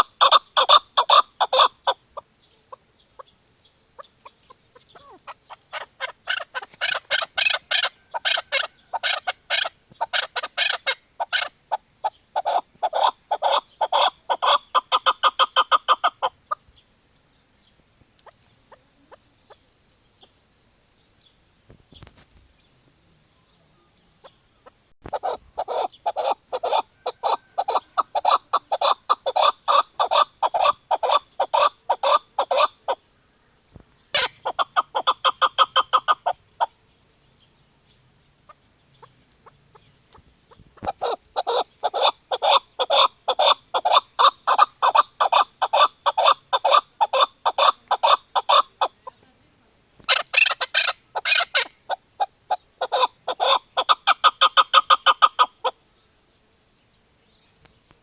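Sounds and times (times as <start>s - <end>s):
partridge clucking calls: 0.0s - 16.8s, 18.0s - 20.4s, 24.2s - 33.0s, 33.7s - 36.8s, 38.4s - 49.4s, 50.0s - 55.8s.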